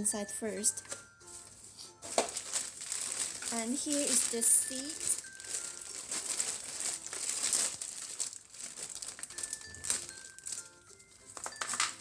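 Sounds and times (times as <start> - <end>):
plastic bags crinkling: 0.7 - 12.0.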